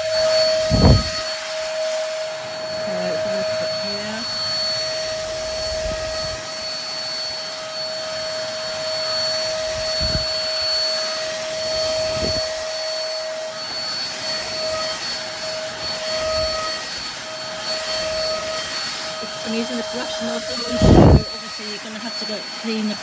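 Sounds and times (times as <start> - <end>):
stick vacuum cleaner running: 0.0 - 23.0.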